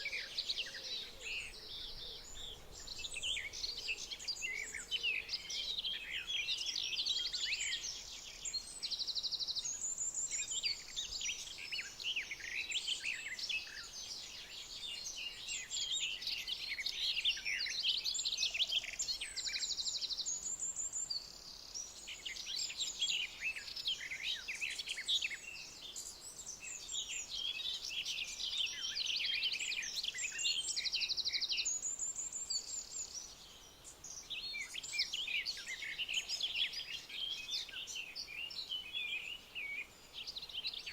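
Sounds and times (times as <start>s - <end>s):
songbirds chirping and whistling: 0.0s - 40.9s.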